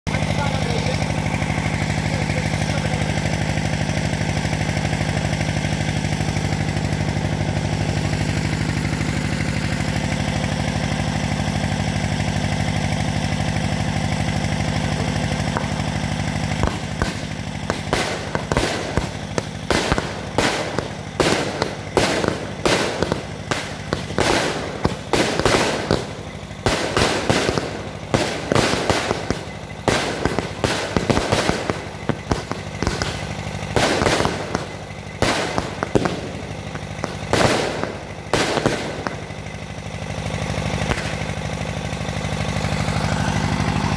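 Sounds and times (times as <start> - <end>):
fireworks bangs with crackling: 0.1 - 43.9
low motor drone: 0.1 - 43.9.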